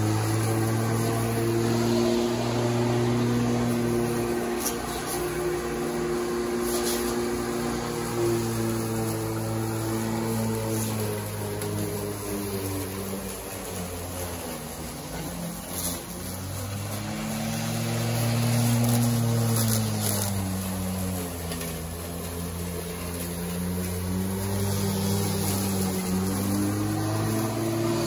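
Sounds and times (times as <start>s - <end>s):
electric lawnmower running: 0.0s - 28.0s.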